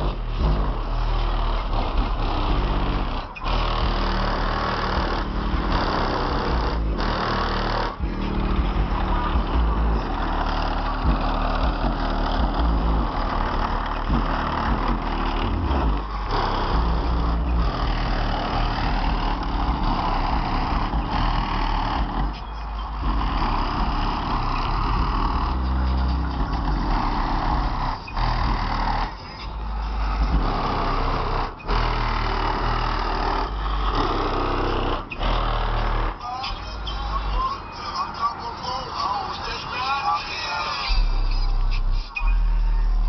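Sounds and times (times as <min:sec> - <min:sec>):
loud bass-heavy music from subwoofers: 0:00.0 - 0:43.0.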